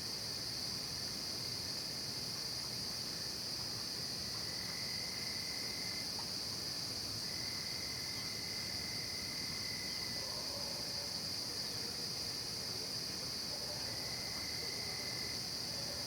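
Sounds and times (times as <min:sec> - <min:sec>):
crickets trilling: 0:00.0 - 0:16.0
faint lower insect trill: 0:00.0 - 0:16.0.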